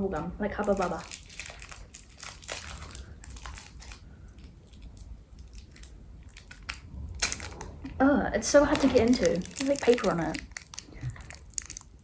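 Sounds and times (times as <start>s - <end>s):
candy wrapper crinkling: 0.5s - 7.9s, 8.5s - 12.0s.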